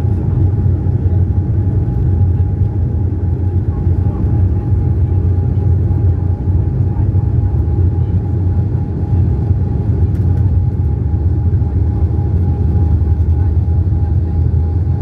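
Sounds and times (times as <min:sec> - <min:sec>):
jet cabin engine rumble: 0:00.0 - 0:15.0.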